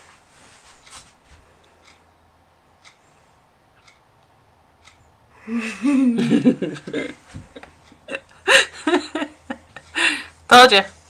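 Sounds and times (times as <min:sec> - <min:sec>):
clock ticking: 0:01.6 - 0:10.9.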